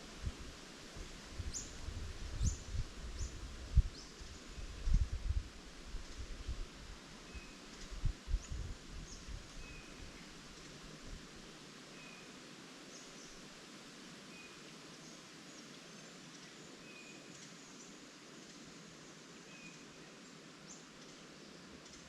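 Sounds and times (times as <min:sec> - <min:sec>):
leaves rustling in wind: 0:00.0 - 0:22.0.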